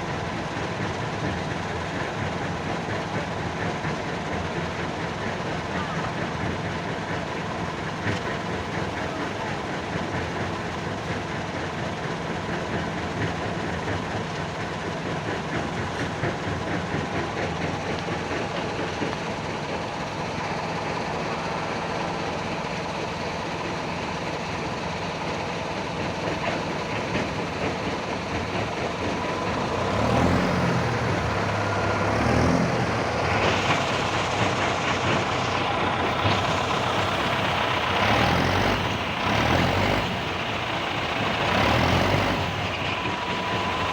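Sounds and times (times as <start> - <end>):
diesel construction machinery running: 0.0 - 43.9.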